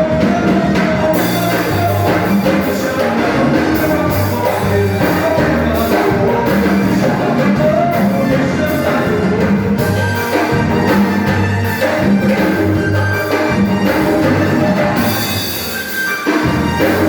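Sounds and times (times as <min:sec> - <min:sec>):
band playing a song: 0:00.0 - 0:17.0
bass guitar notes: 0:00.0 - 0:17.0.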